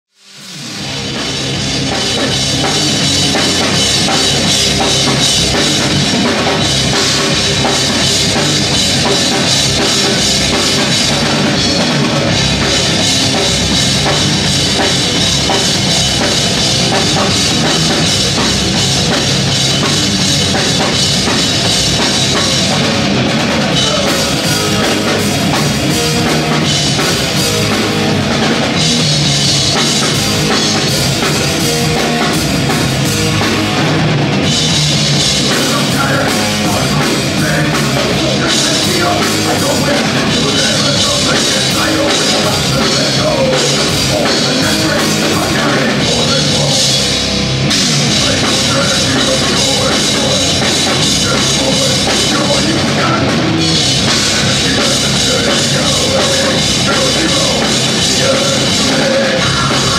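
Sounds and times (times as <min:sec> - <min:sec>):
heavy metal band playing live: 0:00.1 - 0:59.9.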